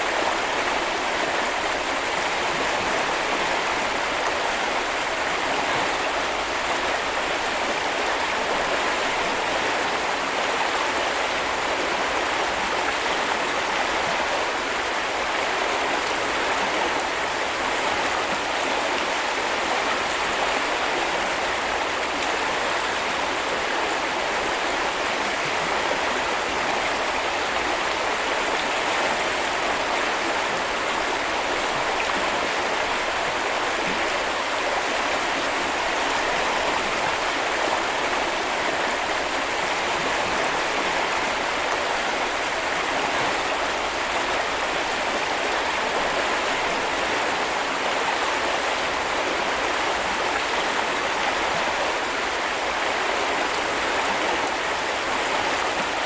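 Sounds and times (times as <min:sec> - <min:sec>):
brook flowing over stones: 0:00.0 - 0:56.0.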